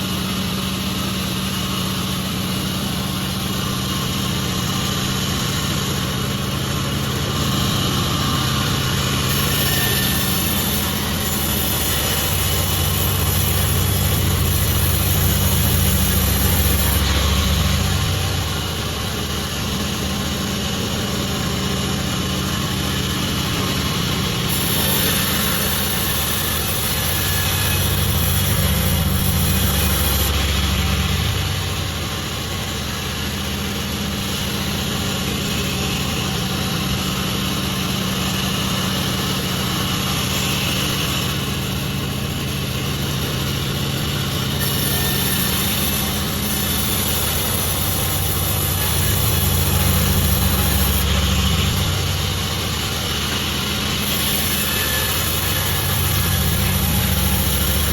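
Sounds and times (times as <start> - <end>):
sawmill machinery drone: 0.0 - 57.9.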